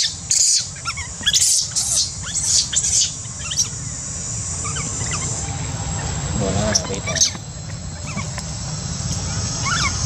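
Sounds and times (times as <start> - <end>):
baby monkey squealing: 0.0 - 8.4, 9.2 - 10.0.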